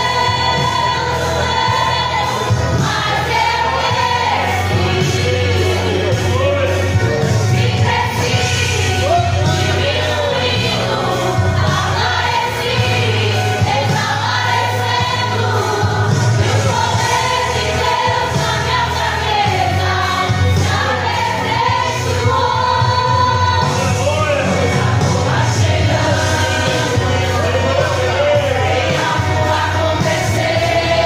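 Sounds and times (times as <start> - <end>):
instrumental accompaniment with bass: 0.0 - 31.0
women singing a gospel hymn: 0.0 - 31.0.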